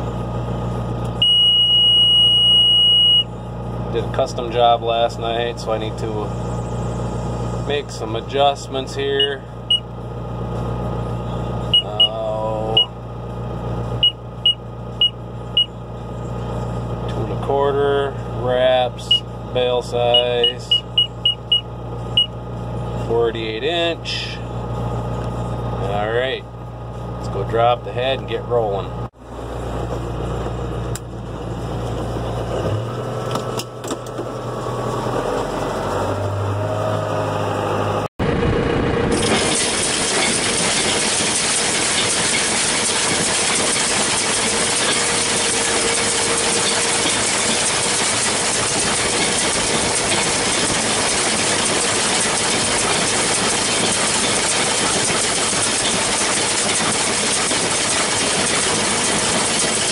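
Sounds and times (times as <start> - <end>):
tractor diesel engine idling: 0.0 - 35.0, 38.3 - 59.9
tractor and baler running: 0.0 - 59.9.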